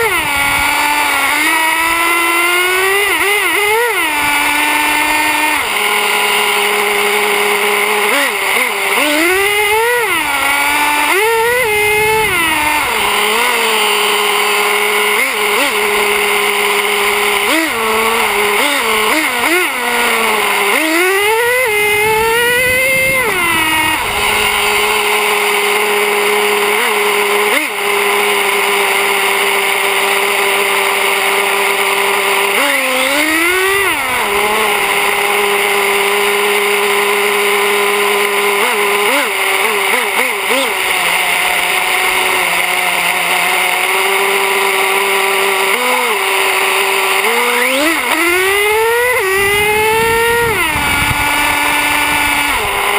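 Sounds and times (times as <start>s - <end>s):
small nitro engine idling and revving: 0.0s - 52.9s.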